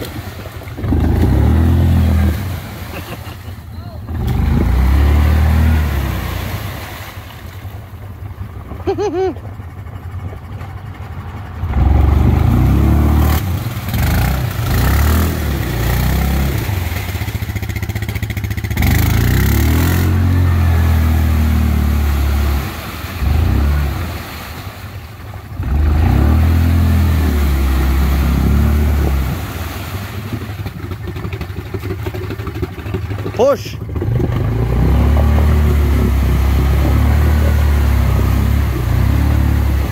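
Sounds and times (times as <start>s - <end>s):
atv engine revving hard: 0.0s - 3.4s, 4.1s - 7.1s, 11.6s - 24.6s, 25.6s - 39.9s
wheels spinning in mud: 0.0s - 39.9s.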